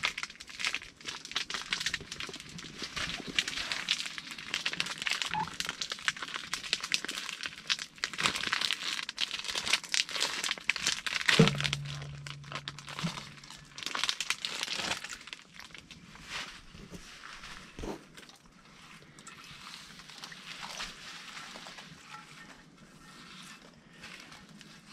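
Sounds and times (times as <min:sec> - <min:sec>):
plastic bag crinkling: 0:00.0 - 0:20.9.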